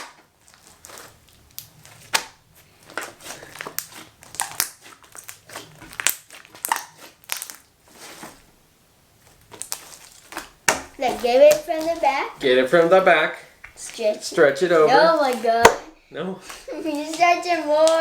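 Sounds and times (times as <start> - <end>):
slime popping and crackling: 0.0 - 8.6, 9.2 - 18.0.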